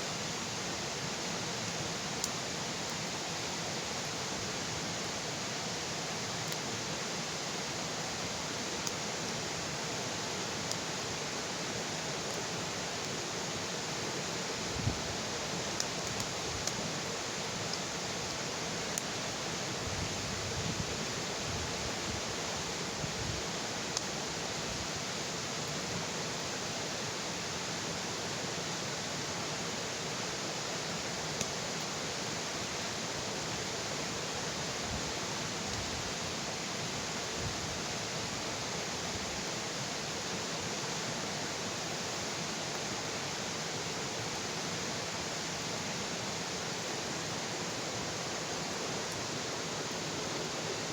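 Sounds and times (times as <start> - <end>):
bonfire hissing: 0.0 - 50.9.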